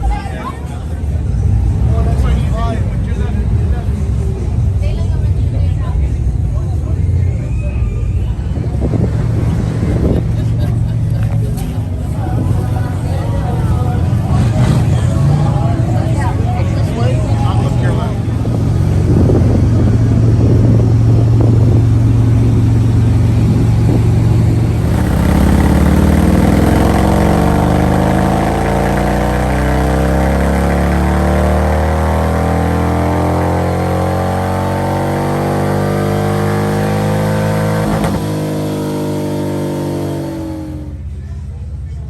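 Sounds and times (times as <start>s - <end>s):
motorcycle engine rumbling: 0.0s - 42.0s.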